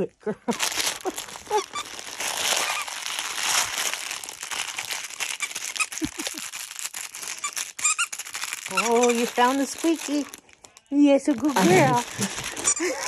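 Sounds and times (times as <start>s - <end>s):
crinkly chew toy crackling: 0.5s - 13.0s.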